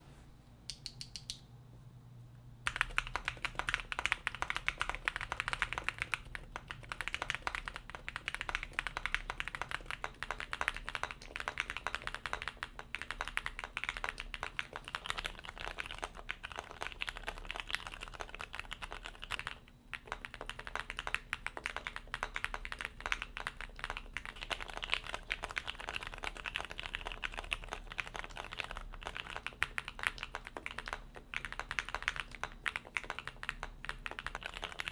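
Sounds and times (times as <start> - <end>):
mechanical keyboard typing: 2.7 - 34.9.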